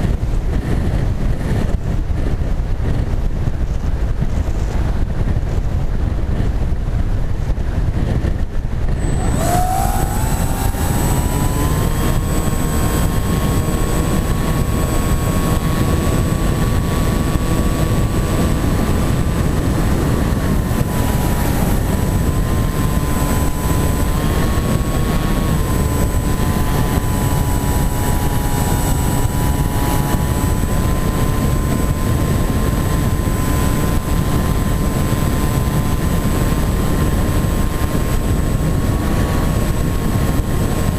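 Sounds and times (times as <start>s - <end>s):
electric motor and propeller whine: 0.0s - 40.9s
wind rushing over camera: 0.0s - 40.9s.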